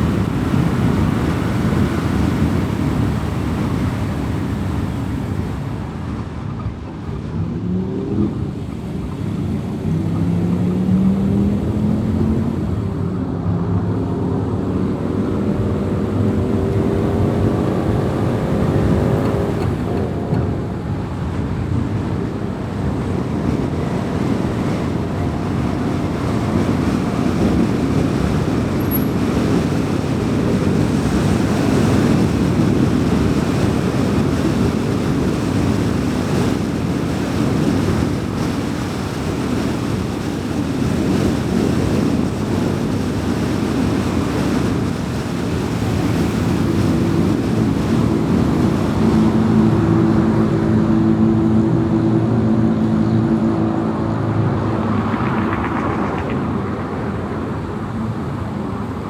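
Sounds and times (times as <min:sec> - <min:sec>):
car engine hum: 0:00.0 - 0:59.0
steady engine tone: 0:00.0 - 0:59.0
tyre and road noise: 0:00.0 - 0:59.0.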